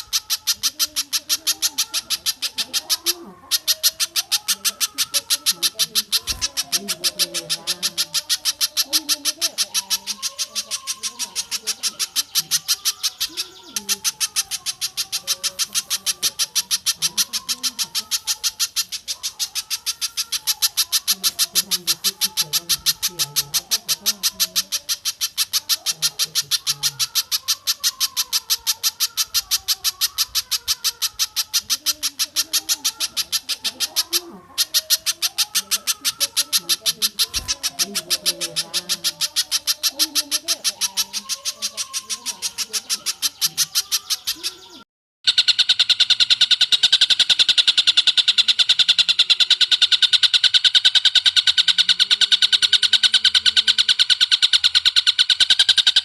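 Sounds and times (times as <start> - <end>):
lower wavering bird calls: 0.0 - 56.0
sharp high bird chips: 0.0 - 56.0.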